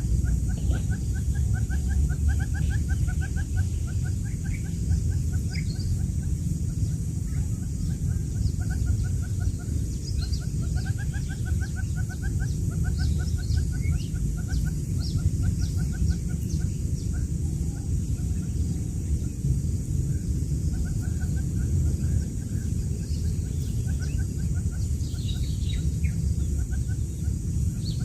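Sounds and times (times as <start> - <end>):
quail chicks peeping: 0.0 - 28.0
steady low rumble: 0.0 - 28.0.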